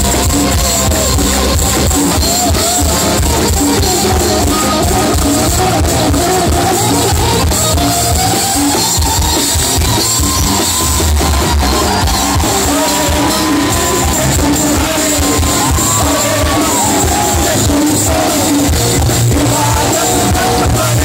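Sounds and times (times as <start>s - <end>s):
man singing: 0.0s - 9.0s, 11.8s - 21.0s
live rock band playing: 0.0s - 21.0s.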